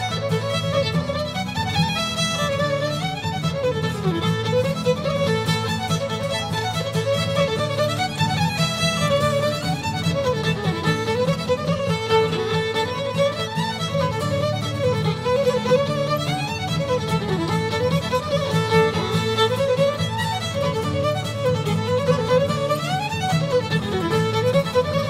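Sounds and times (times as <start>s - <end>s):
quick fiddle melody: 0.0s - 25.0s
steady musical accompaniment: 0.0s - 25.0s.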